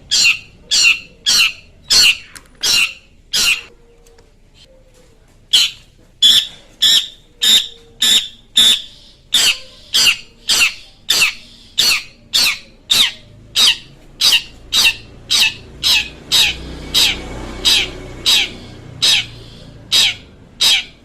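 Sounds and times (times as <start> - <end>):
bird giving harsh rasping calls: 0.0 - 3.7, 5.5 - 21.0.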